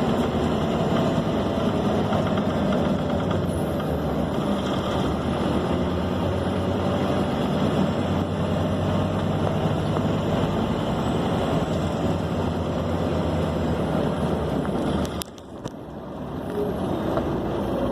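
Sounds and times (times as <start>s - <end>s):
bus diesel engine running: 0.0s - 17.9s
road noise: 0.0s - 17.9s.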